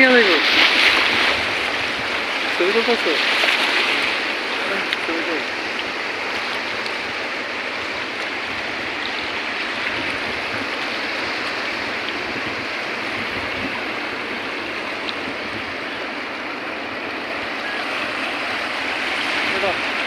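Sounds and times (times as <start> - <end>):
sea surf rushing: 0.0 - 20.0.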